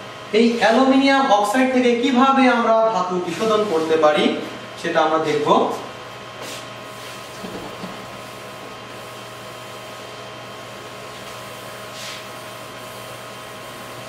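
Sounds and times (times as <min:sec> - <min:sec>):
fan-like room hum and hiss: 0:00.0 - 0:14.0.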